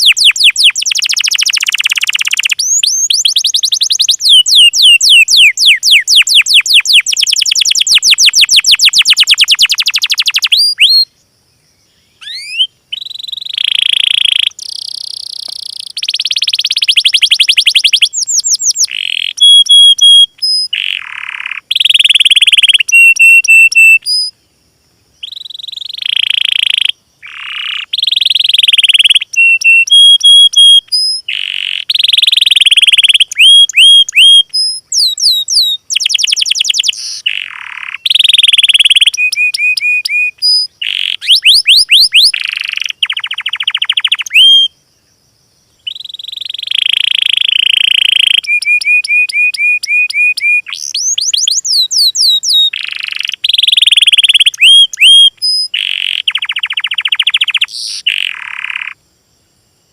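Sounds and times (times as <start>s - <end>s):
high whistled bird notes: 0.0s - 11.1s, 12.2s - 24.4s, 25.2s - 44.8s, 45.8s - 59.0s
songbirds trilling: 0.0s - 24.4s, 25.2s - 44.7s, 45.7s - 59.0s.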